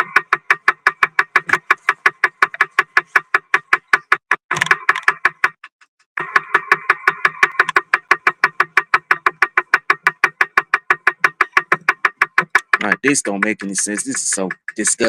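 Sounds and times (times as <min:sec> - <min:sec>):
music with fast ticking beat: 0:00.0 - 0:15.0.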